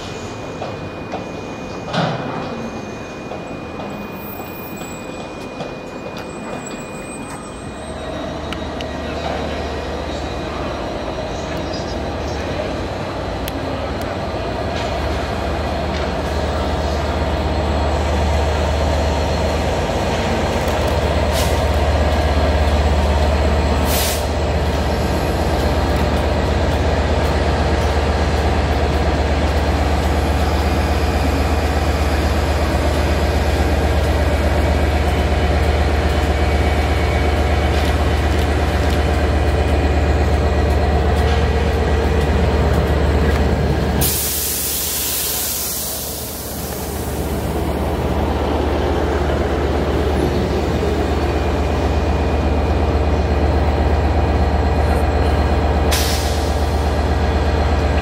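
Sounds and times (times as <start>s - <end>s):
train engine drone: 0.0s - 58.0s.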